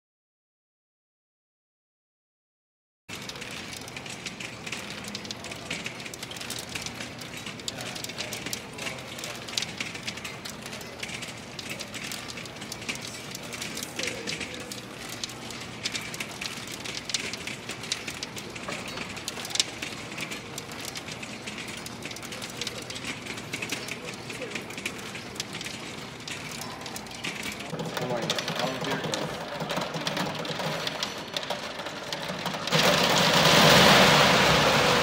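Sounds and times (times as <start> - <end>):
small balls clattering through pegs: 3.1 - 35.0.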